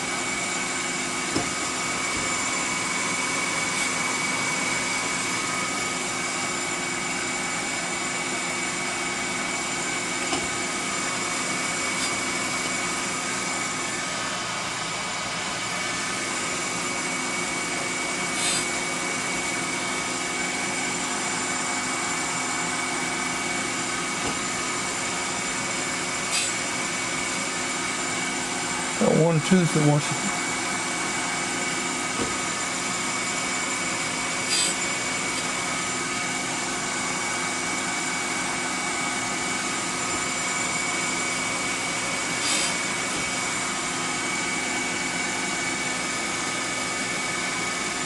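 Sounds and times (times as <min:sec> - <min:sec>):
grinder whining: 0:00.0 - 0:48.0.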